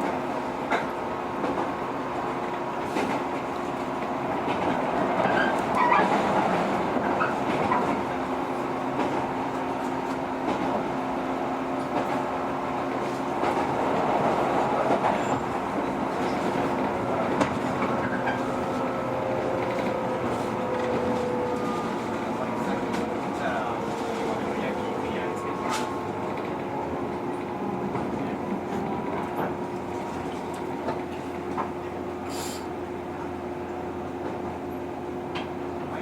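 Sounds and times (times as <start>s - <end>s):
train wheels rumbling: 0.0s - 36.0s
train traction motor hum: 1.1s - 35.9s.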